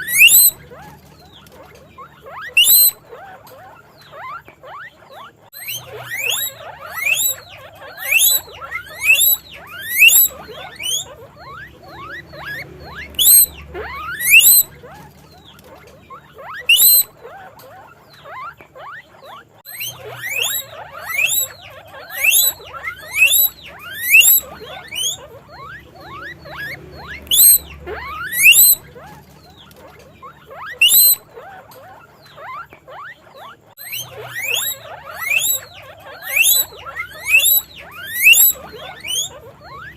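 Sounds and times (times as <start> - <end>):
faint squeaks: 0.0 - 39.9
guinea pig wheeking: 0.0 - 39.9.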